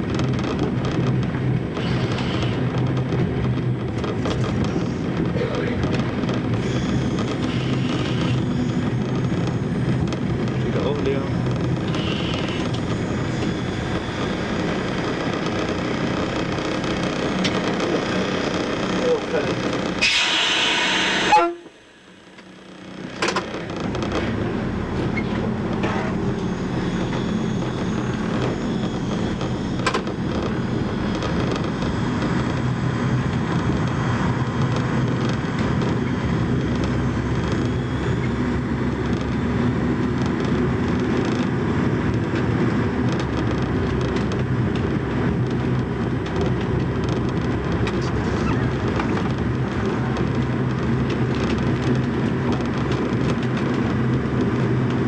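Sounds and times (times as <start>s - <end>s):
diesel engine drone: 0.0s - 55.0s
wheel and rail noise: 0.0s - 55.0s.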